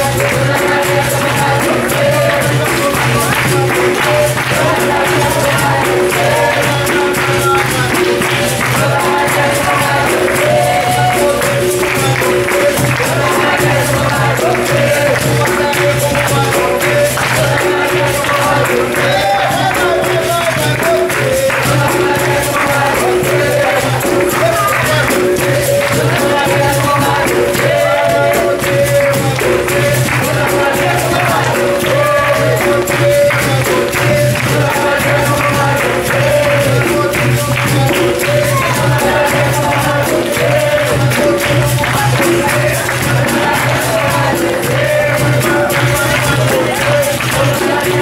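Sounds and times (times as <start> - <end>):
group singing: 0.0 - 48.0
hand clapping: 0.0 - 48.0
tambourine jingles: 0.0 - 48.0.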